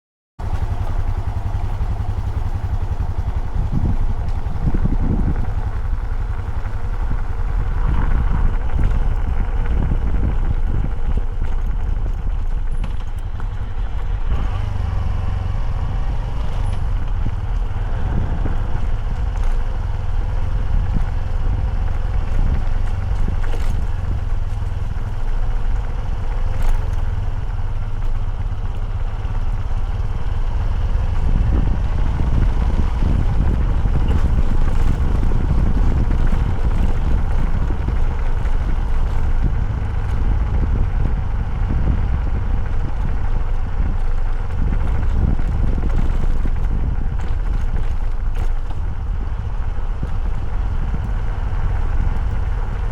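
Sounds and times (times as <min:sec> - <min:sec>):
motorcycle rumbling: 0:00.4 - 0:52.9.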